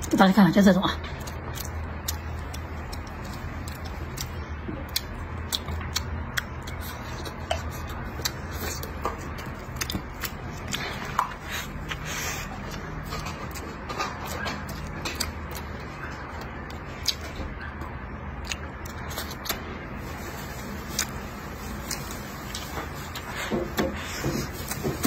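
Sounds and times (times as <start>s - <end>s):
person chewing with mouth clicks: 1.1s - 19.6s, 20.8s - 25.0s.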